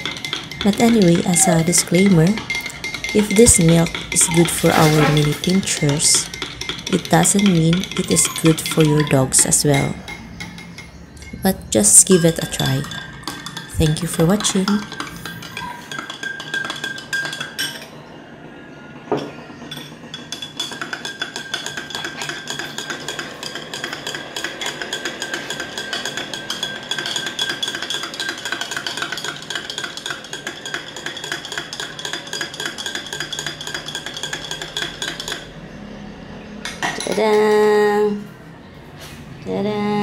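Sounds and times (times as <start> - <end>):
spoon clinking in a glass: 0.0 - 17.9, 19.2 - 35.5.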